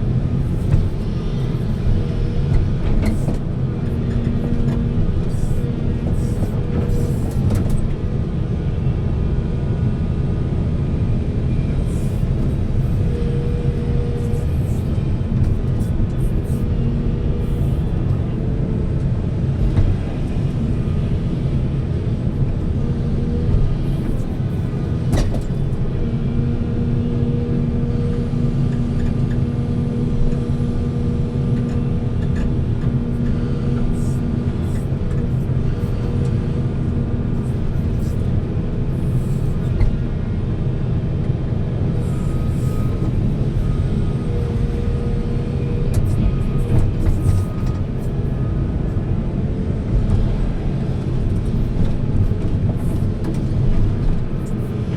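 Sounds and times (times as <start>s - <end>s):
diesel machinery rumbling: 0.0s - 54.9s.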